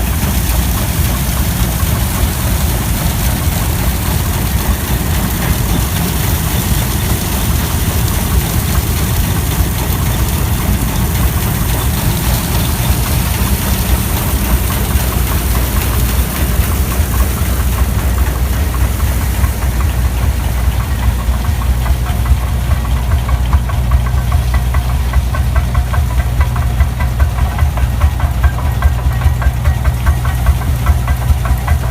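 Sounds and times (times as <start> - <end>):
old engine running slowly: 0.0 - 31.9.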